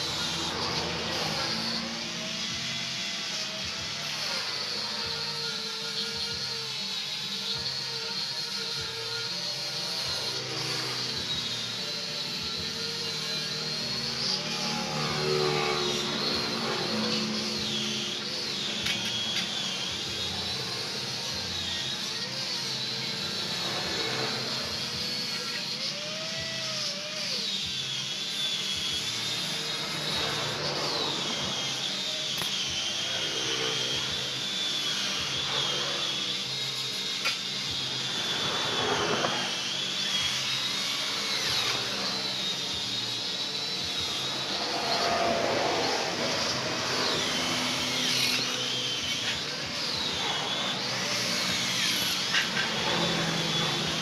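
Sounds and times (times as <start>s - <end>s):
power tool motor whining: 0.0s - 54.0s.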